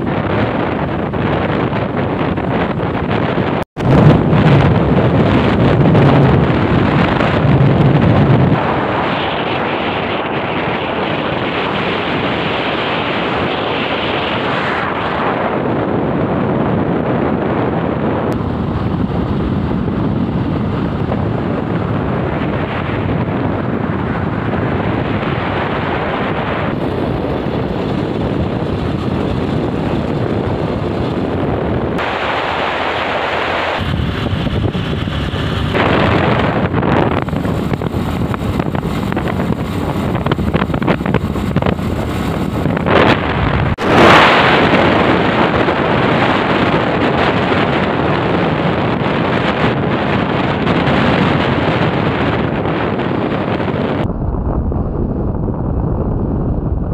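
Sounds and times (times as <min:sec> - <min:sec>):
motorcycle vehicle noise: 0:00.0 - 0:56.9
wind buffeting microphone: 0:00.0 - 0:56.9.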